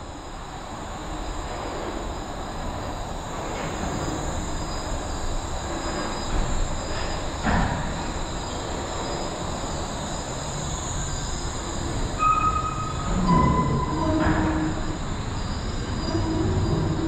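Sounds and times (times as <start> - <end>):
suspended train rumbling with whine: 0.0 - 17.0.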